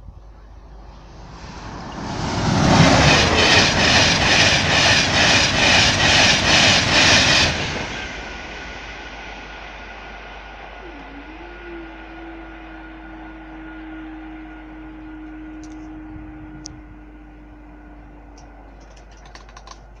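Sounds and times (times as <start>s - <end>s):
barrier machine hum: 0.0s - 20.0s.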